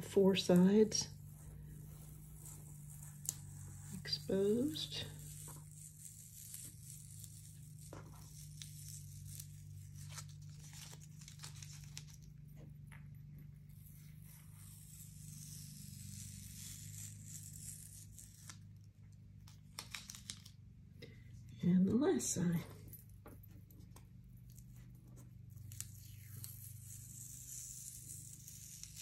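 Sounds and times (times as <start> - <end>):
tape peeling off paper: 0.0 - 20.6, 23.0 - 29.0.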